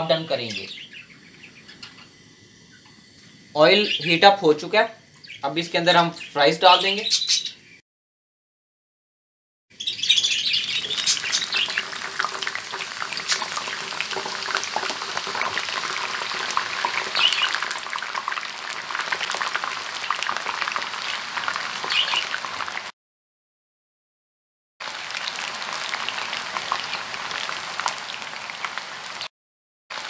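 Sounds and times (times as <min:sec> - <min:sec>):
fries sizzling in oil: 0:00.0 - 0:07.1, 0:09.8 - 0:22.9, 0:24.8 - 0:29.3.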